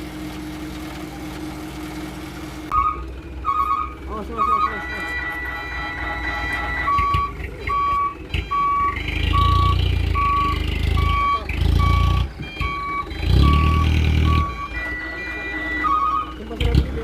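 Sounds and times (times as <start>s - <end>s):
diesel engine surging: 0.0s - 17.0s
reversing alarm beeping: 2.8s - 16.4s.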